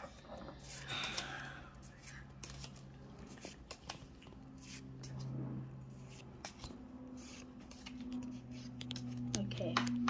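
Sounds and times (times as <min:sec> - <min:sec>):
steady low hum: 0:00.0 - 0:10.0
trading cards sliding and flicking: 0:00.5 - 0:10.0.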